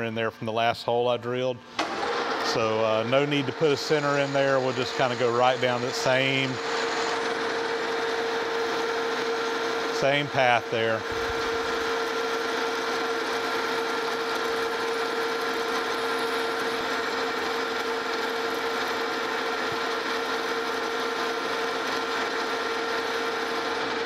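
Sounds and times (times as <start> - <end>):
metal lathe running: 0.0 - 24.0
steady whine: 0.0 - 24.0
drill boring into metal: 1.7 - 24.0.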